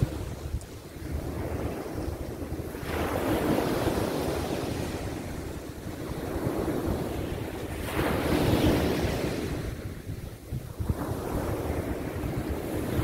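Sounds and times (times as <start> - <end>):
sea waves breaking on beach: 0.0 - 13.0
wind rumble on microphone: 0.0 - 13.0.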